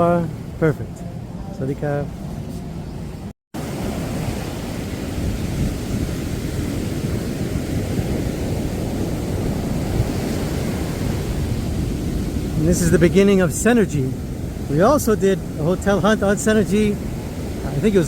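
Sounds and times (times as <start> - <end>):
sea surf: 0.0 - 18.0
wind on the microphone: 2.2 - 18.0.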